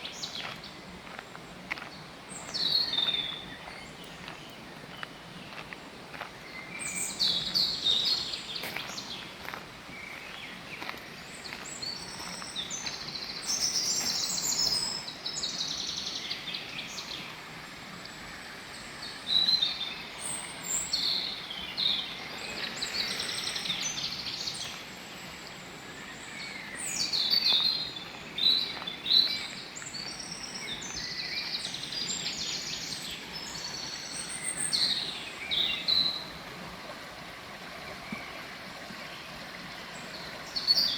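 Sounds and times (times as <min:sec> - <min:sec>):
songbirds singing and chirping: 0:00.0 - 0:17.4, 0:18.1 - 0:36.4
faint outdoor background noise: 0:00.0 - 0:40.9.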